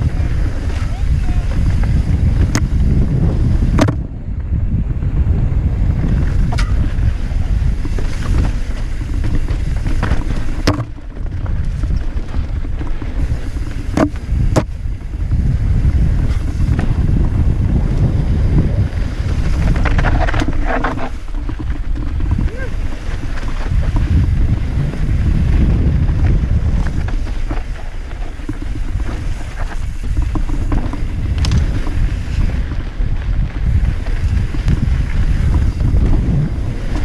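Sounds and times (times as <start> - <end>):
wind buffeting microphone: 0.0 - 37.0
bike clacking over rocks: 6.1 - 37.0.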